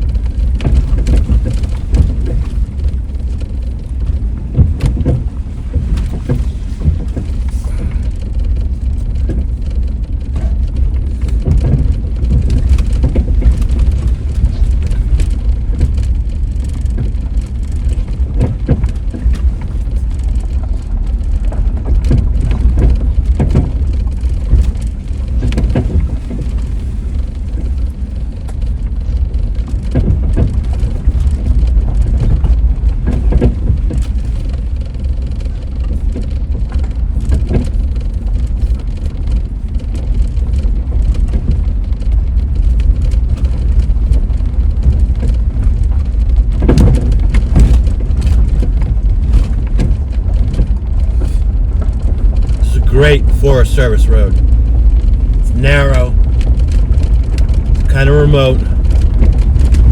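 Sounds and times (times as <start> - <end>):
car interior rumble: 0.0 - 59.9
knocks and rattles from bumps: 0.1 - 53.3.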